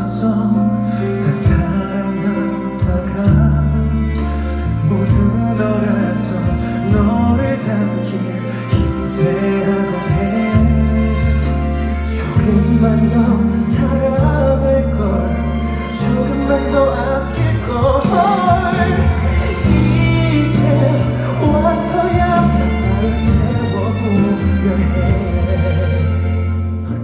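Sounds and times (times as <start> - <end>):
live band playing pop ballad: 0.0 - 27.0
person singing: 0.0 - 27.0.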